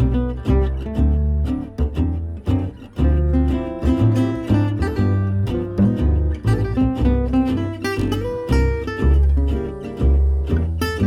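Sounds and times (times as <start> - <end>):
bass line: 0.0 - 11.0
strummed acoustic guitar: 0.0 - 11.0.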